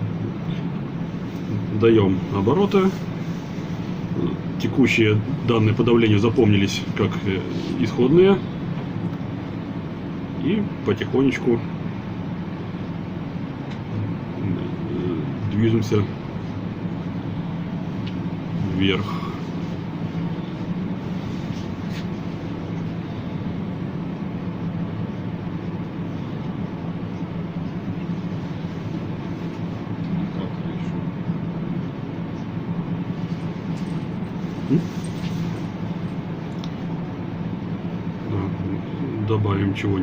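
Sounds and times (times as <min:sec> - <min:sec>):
ferris wheel mechanical rumble: 0:00.0 - 0:40.0.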